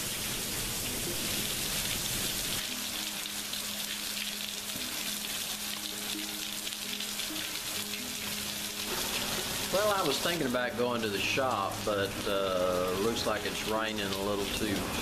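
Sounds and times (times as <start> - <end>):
heavy rain on concrete: 0.0 - 15.0.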